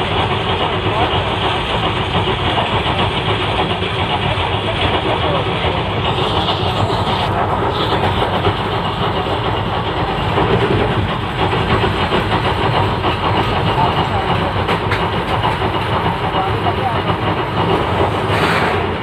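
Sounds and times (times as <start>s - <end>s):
train wheels running over rails: 0.0s - 19.0s.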